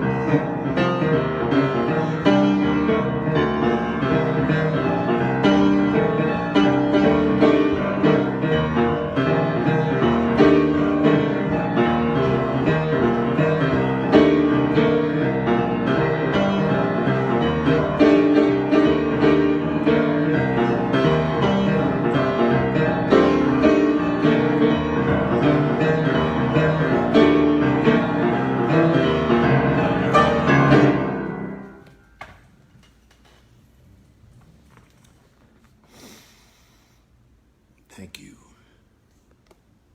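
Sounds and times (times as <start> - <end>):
solo piano improvisation: 0.0 - 32.2.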